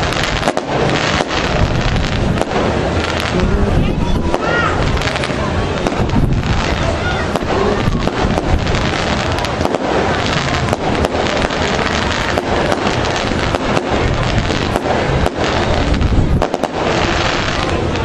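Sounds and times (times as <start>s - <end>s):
crackle of sharp pops and bangs: 0.0s - 18.0s
low rumble: 0.0s - 18.0s.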